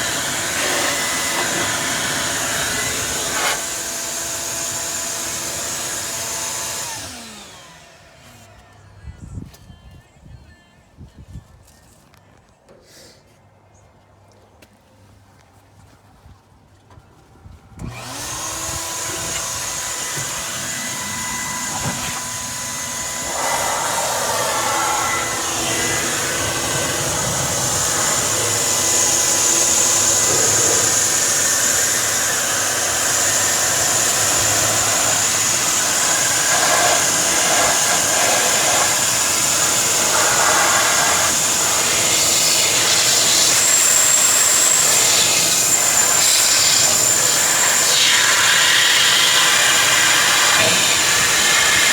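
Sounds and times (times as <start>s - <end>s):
air blower rushing: 0.0s - 8.3s, 17.8s - 51.9s
electric motor whining: 0.0s - 8.6s, 17.8s - 51.9s.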